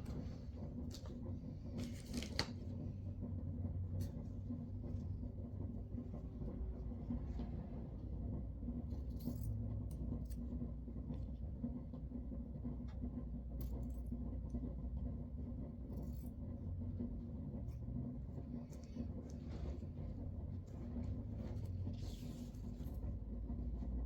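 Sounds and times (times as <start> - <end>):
faint hum: 0.0 - 24.0
steady low rumble: 0.0 - 24.0.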